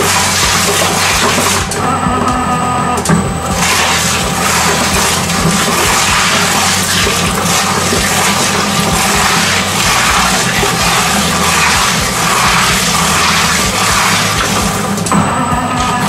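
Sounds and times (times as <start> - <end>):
low motor hum: 0.0 - 16.0
shredder grinding cabbage: 0.0 - 16.0.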